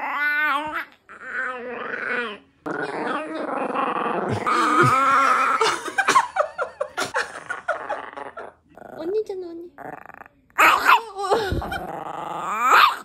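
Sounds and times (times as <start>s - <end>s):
puppy growling whine: 0.0s - 5.7s, 7.3s - 9.1s, 9.8s - 13.0s.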